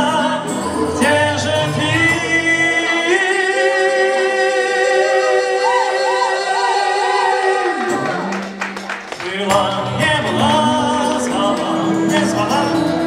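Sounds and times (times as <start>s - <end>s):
duet singing in harmony: 0.0s - 13.0s.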